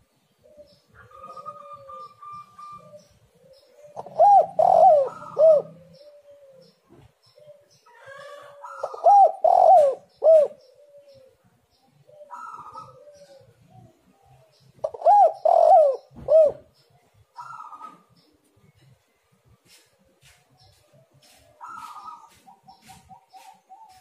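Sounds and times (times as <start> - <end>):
dove cooing: 0.4 - 18.9, 21.3 - 24.0.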